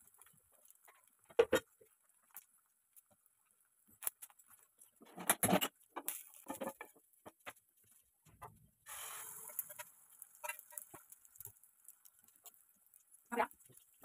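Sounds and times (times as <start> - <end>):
egg sizzling in pan: 0.0 - 14.0.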